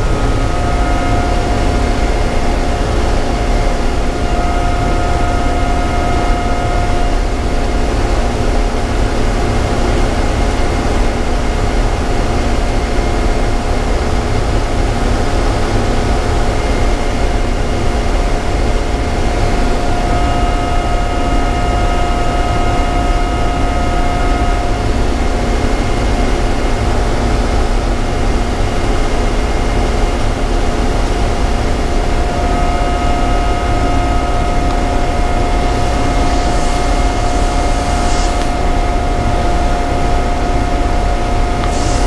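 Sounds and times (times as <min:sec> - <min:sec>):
constant whine: 0:00.0 - 0:42.0
machinery droning: 0:00.0 - 0:42.0.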